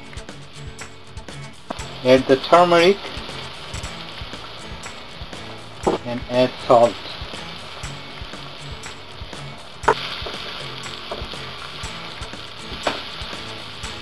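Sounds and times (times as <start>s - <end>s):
potatoes sizzling in oil: 0.0s - 14.0s.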